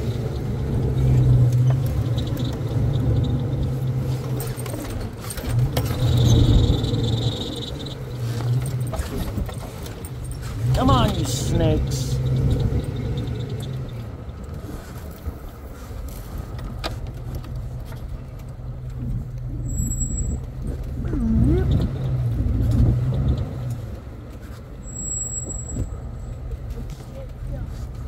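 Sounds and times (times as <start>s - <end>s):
car engine running: 0.0s - 24.6s.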